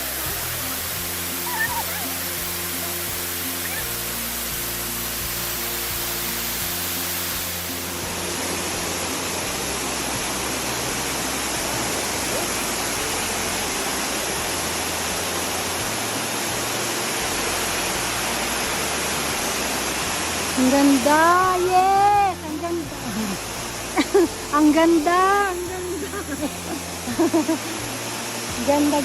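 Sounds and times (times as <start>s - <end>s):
background music with bass notes: 0.0s - 29.0s
waterfall roaring: 0.0s - 29.0s.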